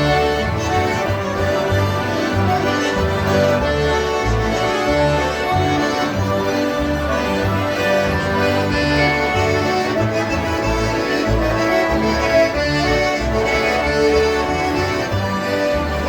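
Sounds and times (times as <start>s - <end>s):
concertinas playing a polka: 0.0s - 16.0s.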